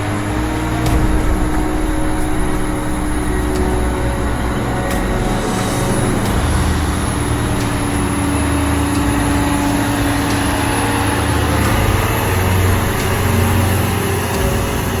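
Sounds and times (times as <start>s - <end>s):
heavy truck engine droning: 0.0s - 15.0s
road noise: 0.0s - 15.0s.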